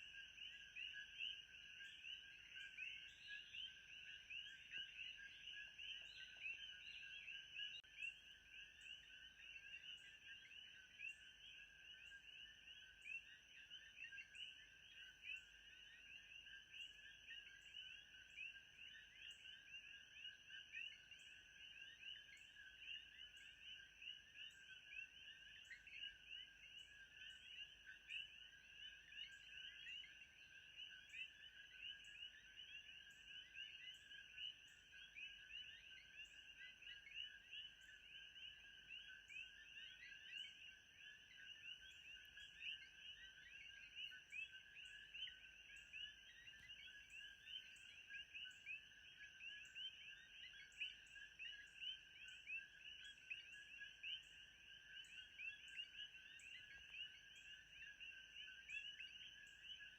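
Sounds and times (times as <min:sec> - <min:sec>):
frogs chirping: 0:00.0 - 0:59.9.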